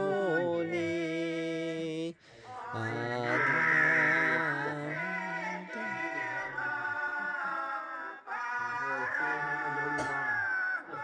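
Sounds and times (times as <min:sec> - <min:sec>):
long held sung notes: 0:00.0 - 0:11.0.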